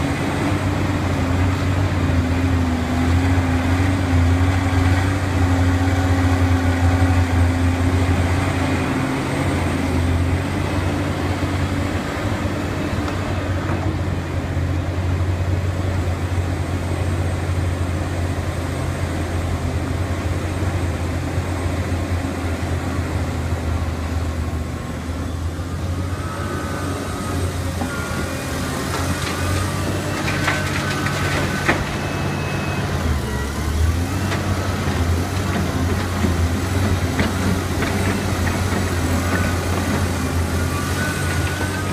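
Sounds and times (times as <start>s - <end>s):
excavator diesel engine droning: 0.0s - 41.9s.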